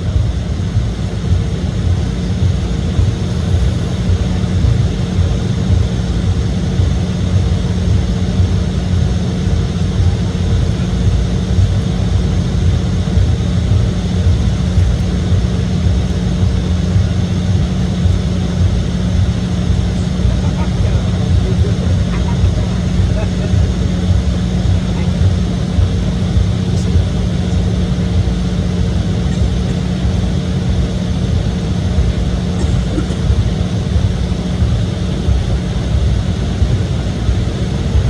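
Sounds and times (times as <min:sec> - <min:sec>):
jet cabin rumble: 0:00.0 - 0:38.0.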